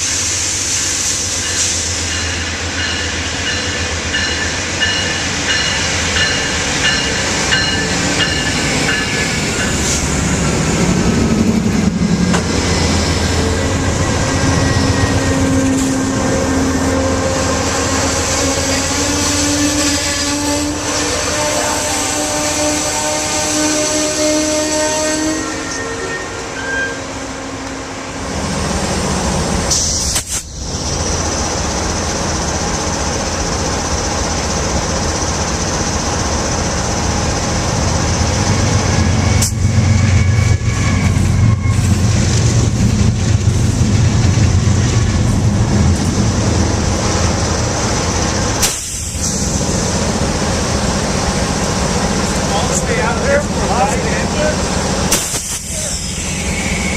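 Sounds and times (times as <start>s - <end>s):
rail rumble: 0.0s - 56.9s
locomotive engine drone: 1.8s - 29.8s, 30.5s - 56.9s.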